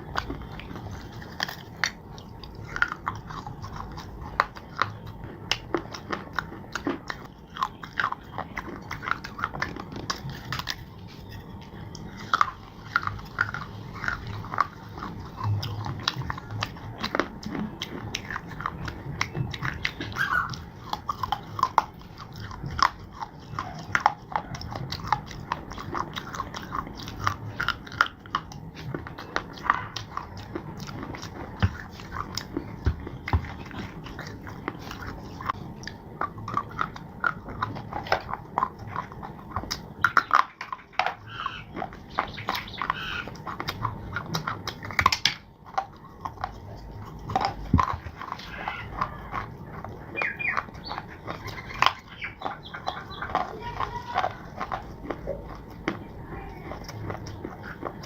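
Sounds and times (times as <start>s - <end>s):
chewing crunchy clay: 0.0s - 58.0s.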